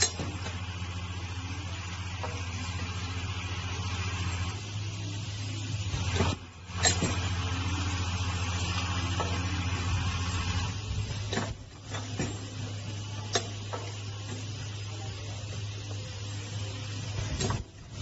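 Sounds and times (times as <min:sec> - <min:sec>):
welding machine humming: 0:00.0 - 0:18.0.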